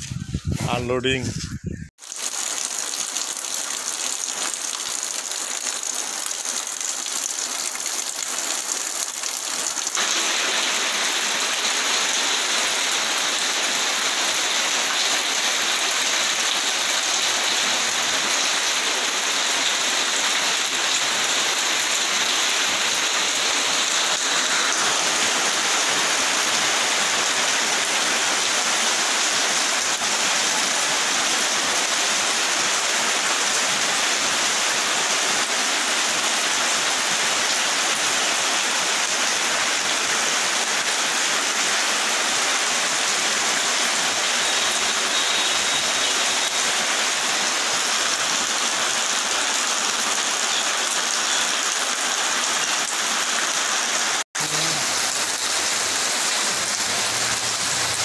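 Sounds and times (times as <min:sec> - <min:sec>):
heavy rain falling: 0:02.0 - 0:58.0.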